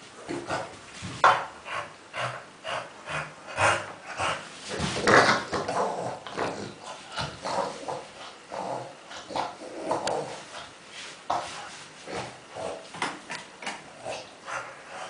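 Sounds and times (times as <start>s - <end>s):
dog grunting and snorting: 0.2s - 15.0s.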